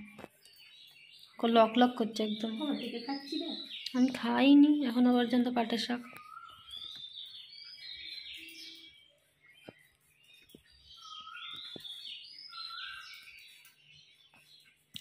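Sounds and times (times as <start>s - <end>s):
birds chirping and warbling: 0.0s - 15.0s.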